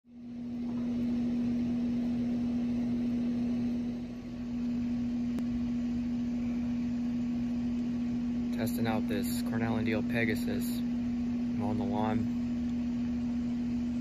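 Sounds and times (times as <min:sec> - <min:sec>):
steady machine hum: 0:00.1 - 0:14.0.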